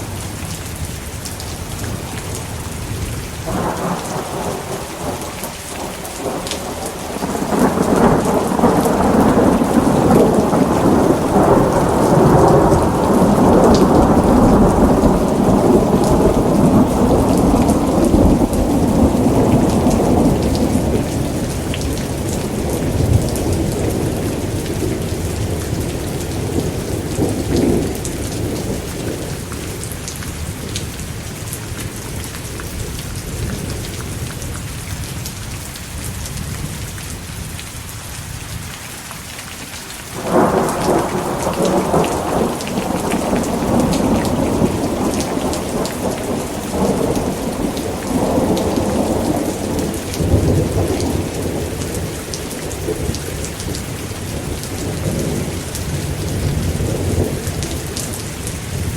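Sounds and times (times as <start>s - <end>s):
heavy rain: 0.0s - 58.9s
rolling thunder: 1.8s - 31.0s, 40.2s - 58.9s.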